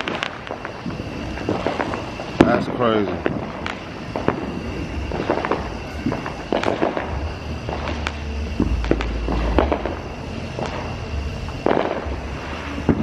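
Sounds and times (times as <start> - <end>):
distant fireworks bangs: 0.0 - 13.0
firecrackers cracking and popping: 0.0 - 13.0.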